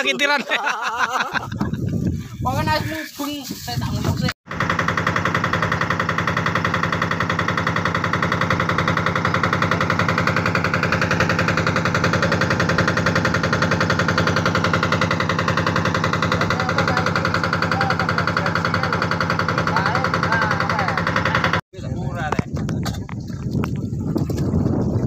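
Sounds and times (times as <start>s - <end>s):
boat diesel engine running: 4.5s - 25.0s.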